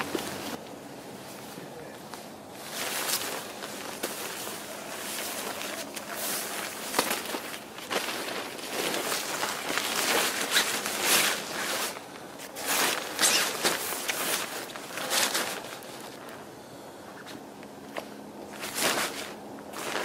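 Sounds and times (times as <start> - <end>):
rain poncho rustling and crinkling: 0.0 - 16.4, 17.9 - 20.0.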